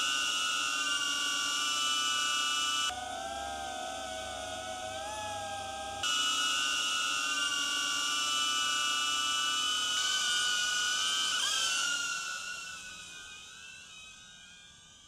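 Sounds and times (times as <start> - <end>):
drone propellers high-pitched squeal: 0.0 - 15.0.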